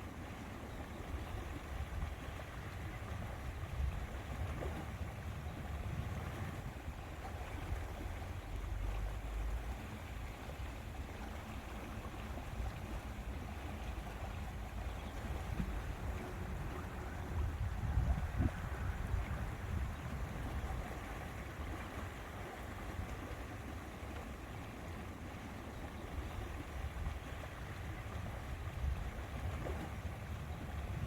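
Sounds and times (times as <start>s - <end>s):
wind rumble on microphone: 0.0s - 23.6s, 24.2s - 31.0s
lake water washing: 0.0s - 31.0s.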